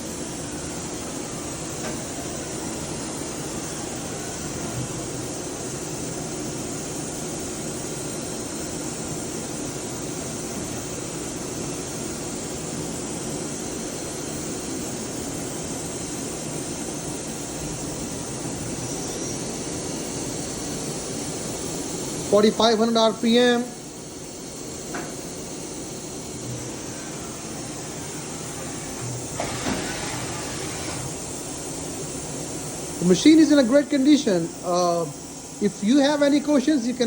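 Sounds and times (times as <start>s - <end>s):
machine hum and hiss: 0.0s - 37.0s.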